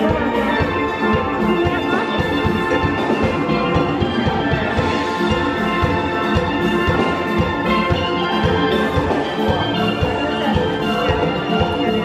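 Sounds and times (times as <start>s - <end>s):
steady drum beat: 0.0s - 12.0s
steel pans playing melody: 0.0s - 12.0s.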